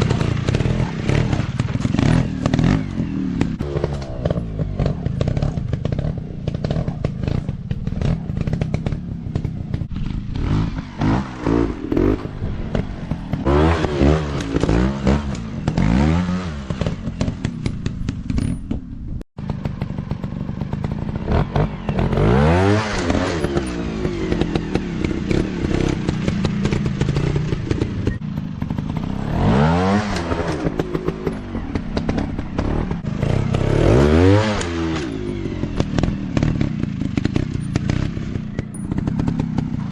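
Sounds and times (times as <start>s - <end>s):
dirt bike engines revving: 0.0s - 18.4s, 19.4s - 39.9s.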